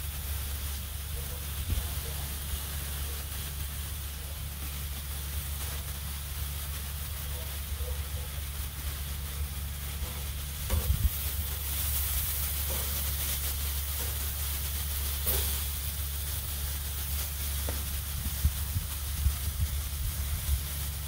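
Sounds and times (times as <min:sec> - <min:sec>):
steak sizzling on a griddle: 0:00.0 - 0:21.0.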